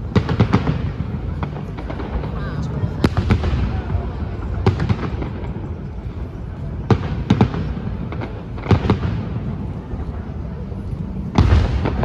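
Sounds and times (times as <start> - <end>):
fireworks bangs: 0.0 - 12.0
steady low rumble: 0.0 - 12.0.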